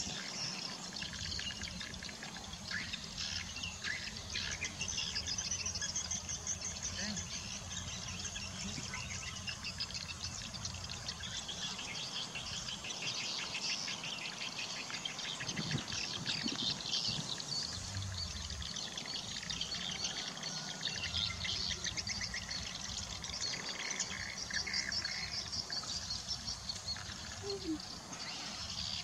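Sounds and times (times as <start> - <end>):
birds chirping: 0.0 - 29.0
insects trilling: 0.0 - 29.0.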